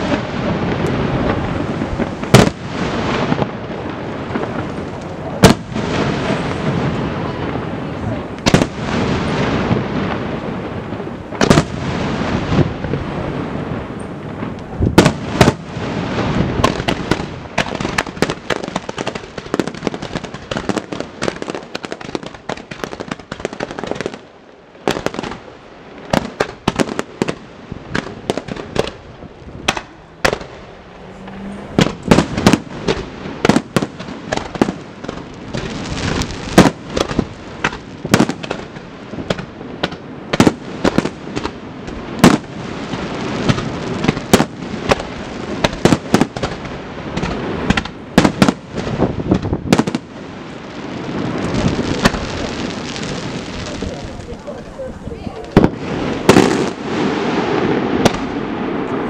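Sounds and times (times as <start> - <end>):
fireworks bursting with sharp bangs: 0.0 - 59.0
fireworks crackling: 0.0 - 59.0.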